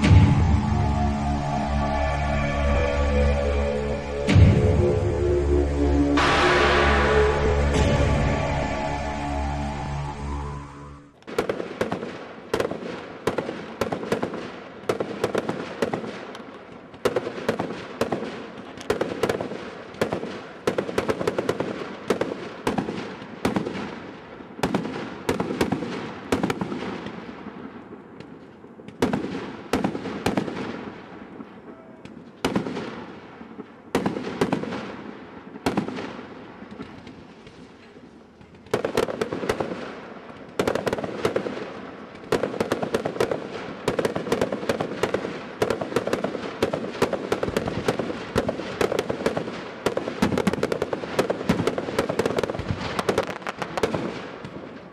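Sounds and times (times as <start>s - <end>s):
fireworks bursting with echo: 0.0s - 54.9s.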